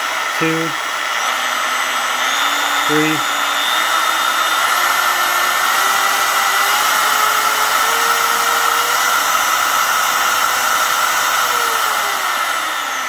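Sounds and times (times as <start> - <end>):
polisher motor whining: 0.0 - 13.0.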